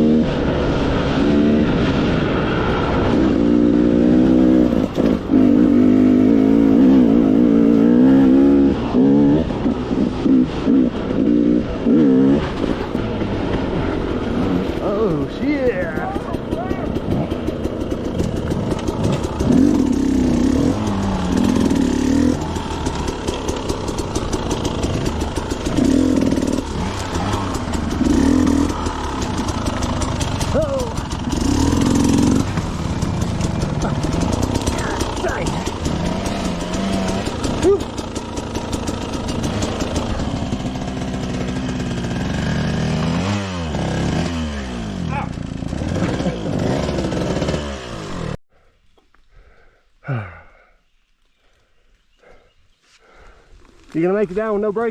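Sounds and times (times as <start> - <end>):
two-stroke dirt bike engine revving: 0.0 - 48.4.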